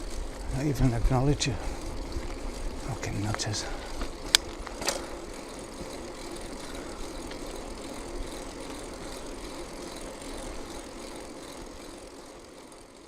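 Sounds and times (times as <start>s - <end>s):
bicycle rolling: 0.0s - 13.0s.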